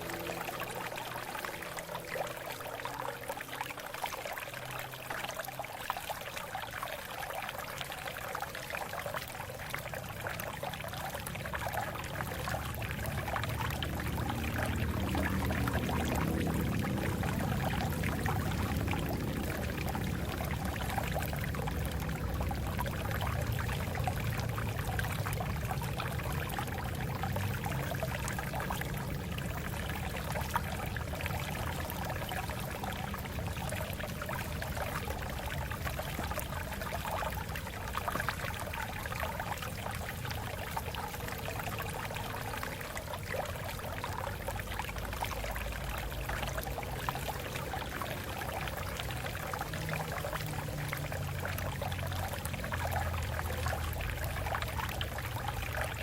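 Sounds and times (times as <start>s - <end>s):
deep water rushing: 0.0s - 56.0s
water splashing over rocks: 0.0s - 56.0s.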